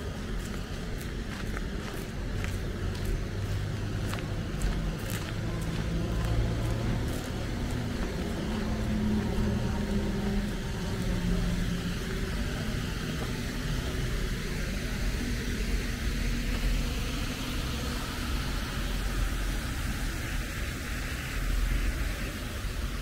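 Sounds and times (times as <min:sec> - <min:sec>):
faint low engine hum: 0:00.0 - 0:23.0
low traffic rumble: 0:00.0 - 0:23.0.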